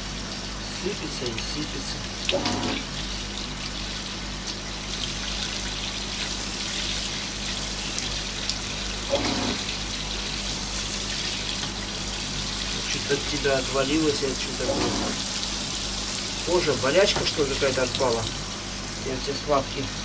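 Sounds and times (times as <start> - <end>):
shower water running: 0.0 - 20.0.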